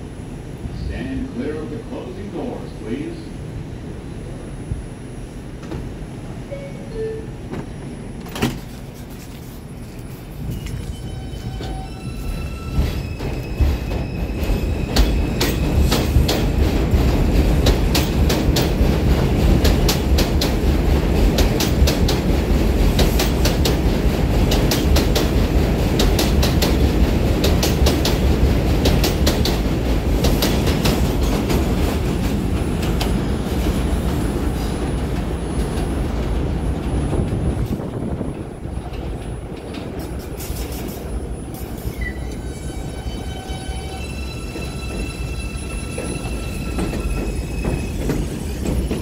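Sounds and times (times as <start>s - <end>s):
train rumble: 0.0s - 49.0s.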